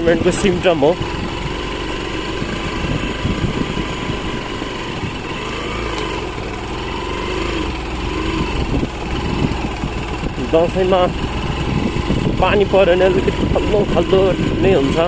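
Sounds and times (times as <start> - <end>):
motorcycle engine at low speed: 0.0 - 15.0.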